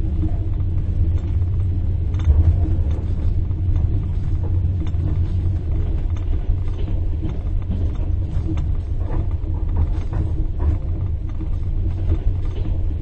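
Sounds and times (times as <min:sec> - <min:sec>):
train rumble inside compartment: 0:00.0 - 0:13.0.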